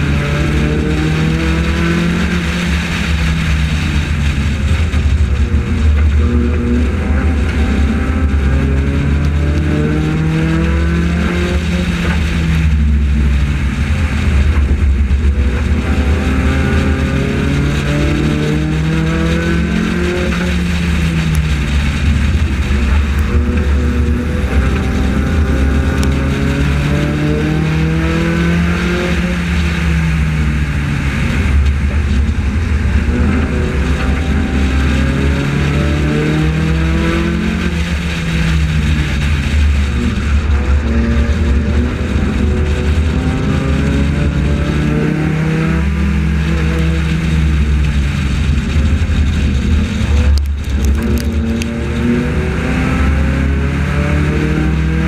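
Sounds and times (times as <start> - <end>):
race car engine revving: 0.0 - 55.0
wind and road rumble: 0.0 - 55.0.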